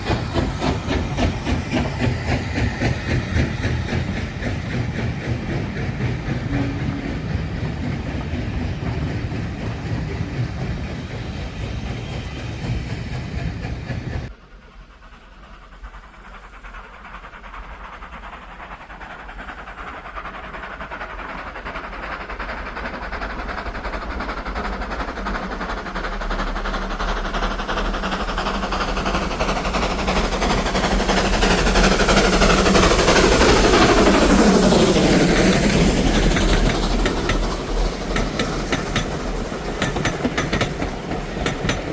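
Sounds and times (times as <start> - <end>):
steam train running: 0.0 - 41.9
train passing: 0.0 - 41.9.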